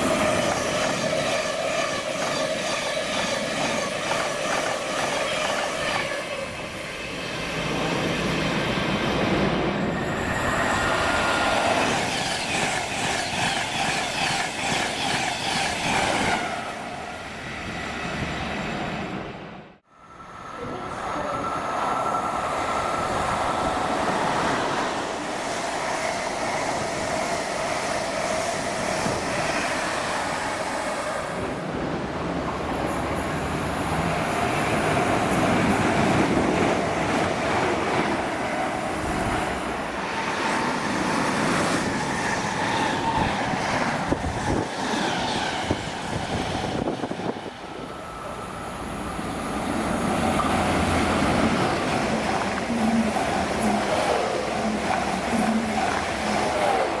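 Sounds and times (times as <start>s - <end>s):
electric trains passing at speed: 0.0s - 57.0s.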